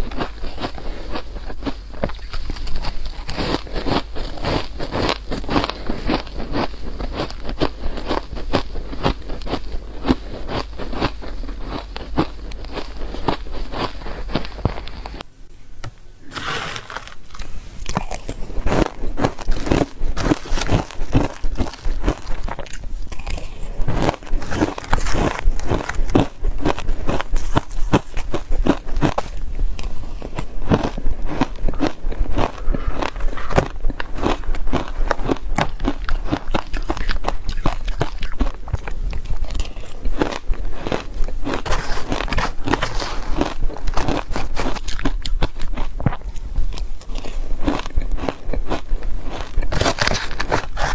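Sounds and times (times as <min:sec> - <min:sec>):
crunchy chewing of shaved ice: 0:00.0 - 0:15.2, 0:16.3 - 0:50.9.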